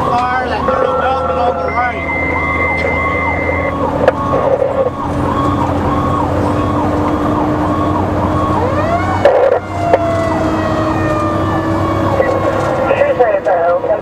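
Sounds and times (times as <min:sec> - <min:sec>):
fire engine siren yelping: 0:00.0 - 0:14.0
truck engine drone: 0:00.0 - 0:14.0.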